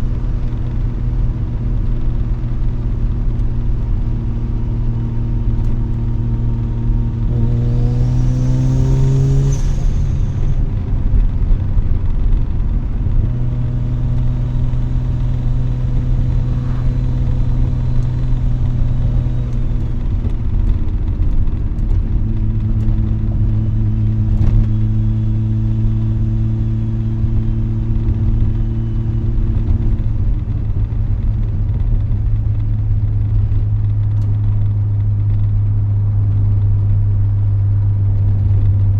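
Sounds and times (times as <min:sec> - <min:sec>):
rotary engine accelerating: 0:00.0 - 0:38.9.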